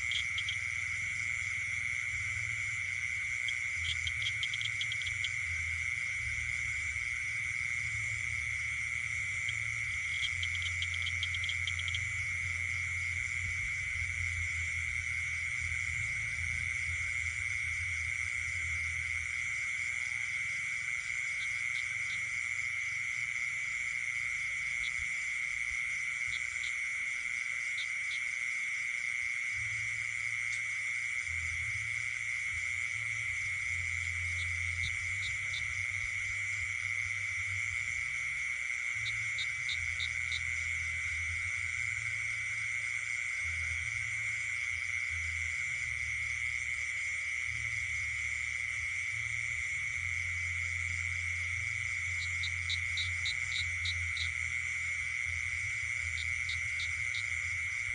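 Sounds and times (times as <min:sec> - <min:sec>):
insect drone: 0:00.0 - 0:57.9.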